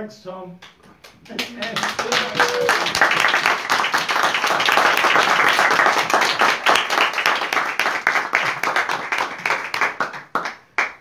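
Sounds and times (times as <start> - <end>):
people clapping: 0.6 - 11.0.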